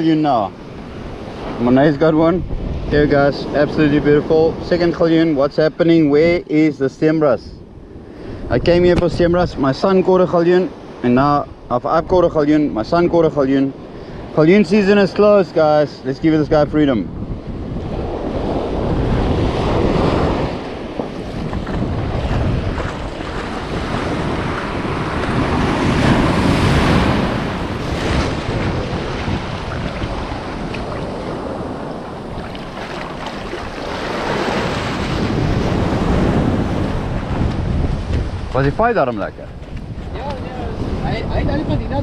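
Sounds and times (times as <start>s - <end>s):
surf washing over sand: 0.0s - 42.0s
wind buffeting microphone: 0.0s - 42.0s.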